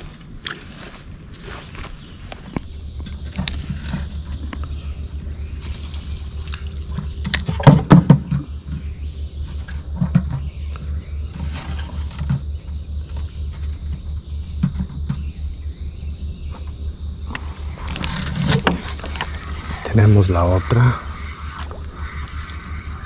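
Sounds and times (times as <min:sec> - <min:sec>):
low throbbing: 0:00.0 - 0:23.0
high insect-like trill: 0:02.2 - 0:07.6, 0:08.6 - 0:23.0.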